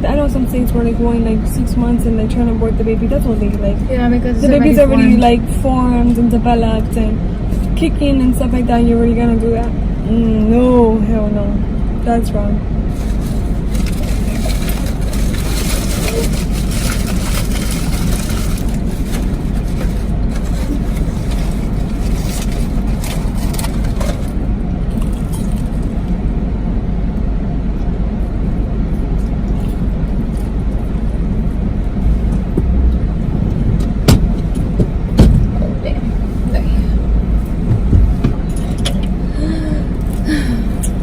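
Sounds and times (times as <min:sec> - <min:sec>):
car road and engine noise: 0:00.0 - 0:41.0.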